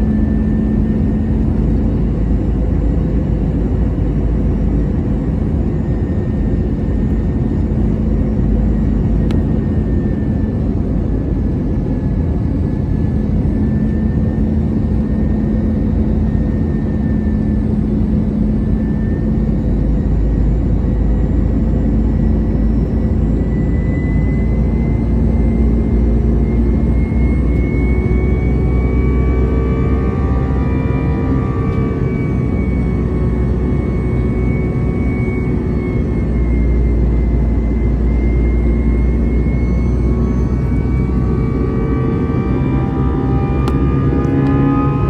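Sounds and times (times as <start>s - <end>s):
faint rising whine: 0.0s - 45.0s
jet cabin roar: 0.0s - 45.0s
steady hum: 0.0s - 45.0s.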